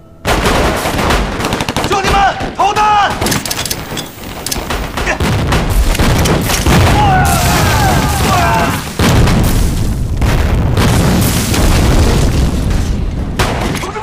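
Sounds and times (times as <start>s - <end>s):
grenade explosions: 0.0s - 14.0s.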